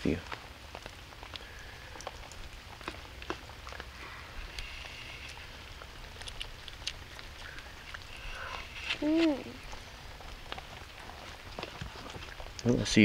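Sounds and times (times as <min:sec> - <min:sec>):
faint ticks and pops: 0:00.0 - 0:13.0.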